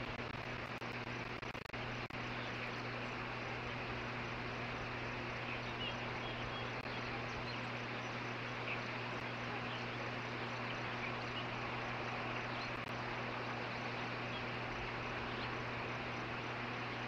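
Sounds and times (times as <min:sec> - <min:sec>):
low hum: 0:00.0 - 0:17.0
outdoor background hiss: 0:00.0 - 0:17.0
faint bird chirps: 0:01.8 - 0:17.0.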